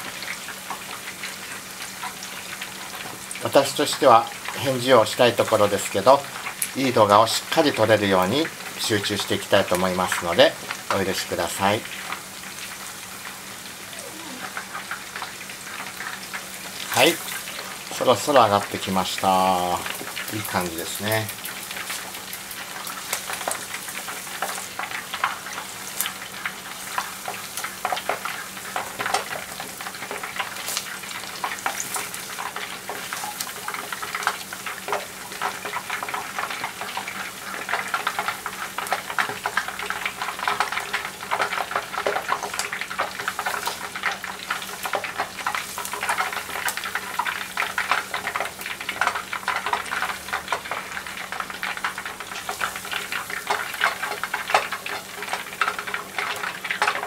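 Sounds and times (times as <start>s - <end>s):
hot oil crackling and sizzling: 0.0s - 57.0s.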